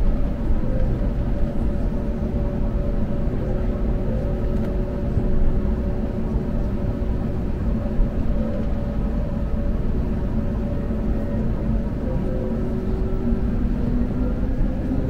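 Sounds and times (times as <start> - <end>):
airplane cabin rumble: 0.0 - 15.0
jet engines humming: 0.0 - 15.0.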